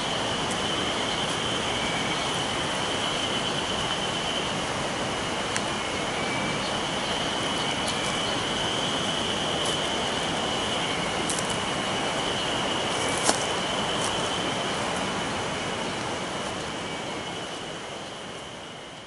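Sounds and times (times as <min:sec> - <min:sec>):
rushing hiss: 0:00.0 - 0:18.5
cicadas droning: 0:00.0 - 0:19.0.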